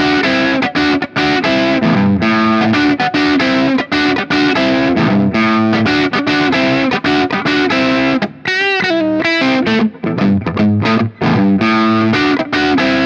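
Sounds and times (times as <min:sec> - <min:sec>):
electric guitar chord riff: 0:00.0 - 0:13.0.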